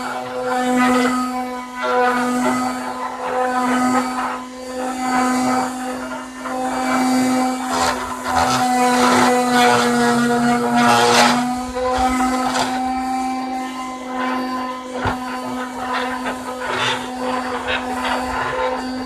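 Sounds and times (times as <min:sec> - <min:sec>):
electric sander on wood: 0:00.0 - 0:19.0.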